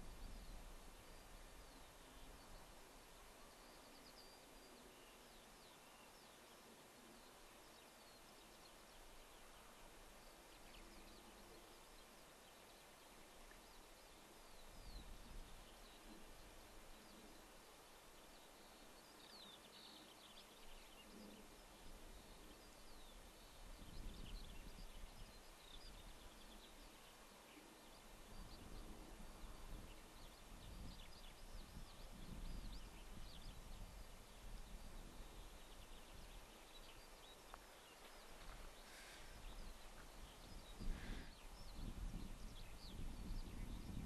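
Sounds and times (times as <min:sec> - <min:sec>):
distant birdsong chirps: 0:00.0 - 0:44.0
steady outdoor hiss: 0:00.0 - 0:44.0.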